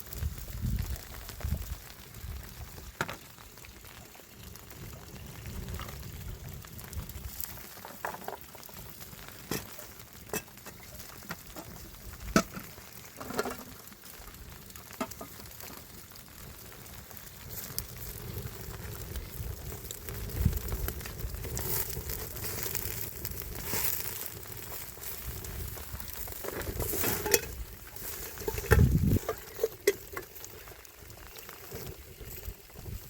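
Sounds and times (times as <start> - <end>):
wood fire sizzling and crackling: 0.0 - 33.0.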